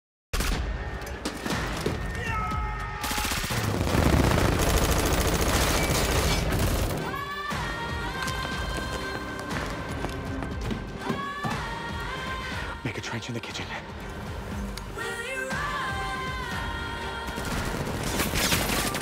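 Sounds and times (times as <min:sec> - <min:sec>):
music: 0:00.4 - 0:19.0.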